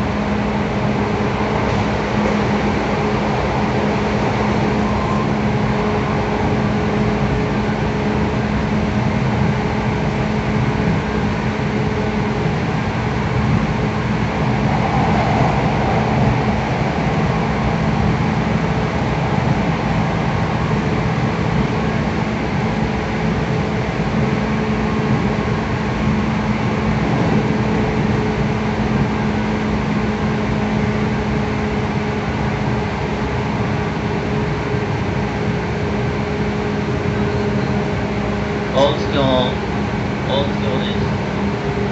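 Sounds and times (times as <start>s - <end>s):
steady train hum: 0.0s - 41.9s
train wheels rumbling on rail: 0.0s - 41.9s.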